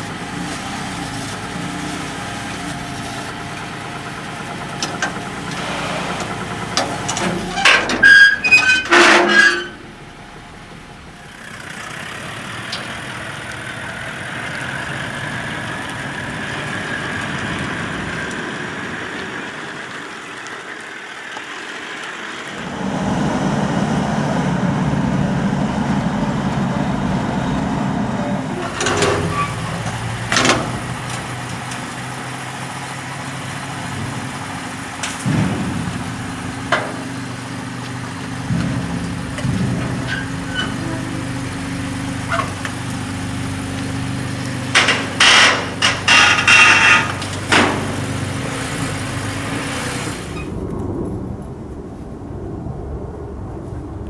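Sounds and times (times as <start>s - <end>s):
clunks and knocks: 0.0s - 18.4s, 22.6s - 50.7s
vehicle engine idling: 0.0s - 51.9s.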